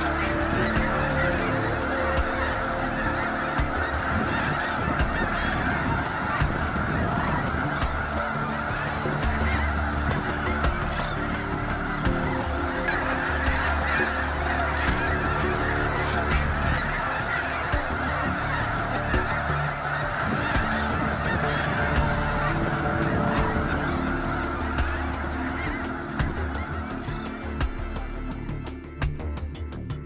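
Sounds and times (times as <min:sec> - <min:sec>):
flock of geese honking: 0:00.0 - 0:28.5.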